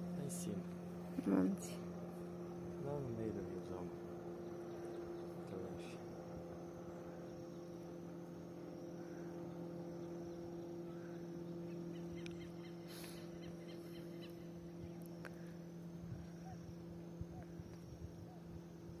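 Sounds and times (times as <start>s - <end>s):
boat motor low hum: 0.0s - 19.0s.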